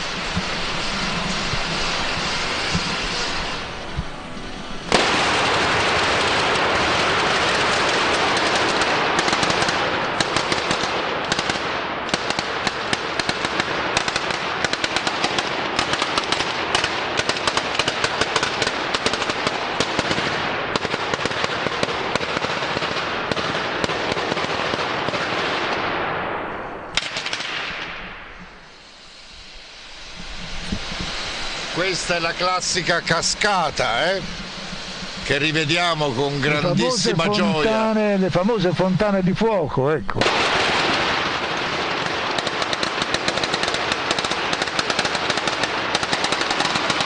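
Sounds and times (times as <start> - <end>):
firecrackers bursting in volleys: 0.0 - 47.0
fireworks rushing: 0.0 - 47.0.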